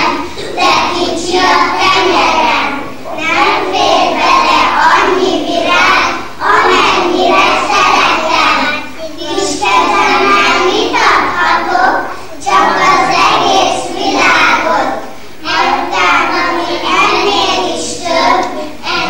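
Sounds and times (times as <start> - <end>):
children singing in unison: 0.0 - 19.0.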